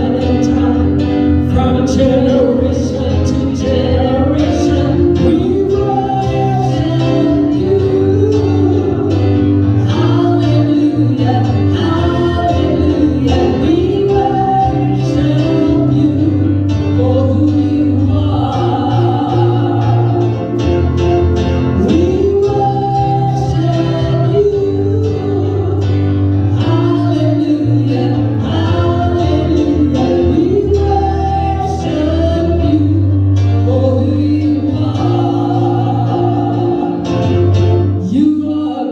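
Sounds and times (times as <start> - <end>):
instrumental accompaniment: 0.0 - 38.8
voices singing gospel: 0.0 - 38.9.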